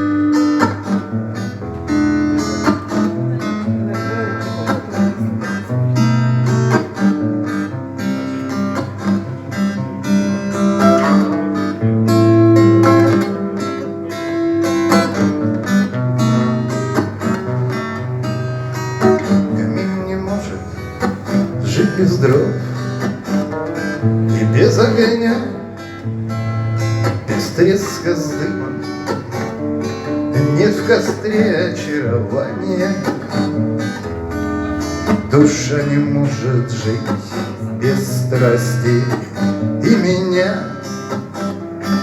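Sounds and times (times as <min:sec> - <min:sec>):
acoustic guitar music: 0:00.0 - 0:42.0.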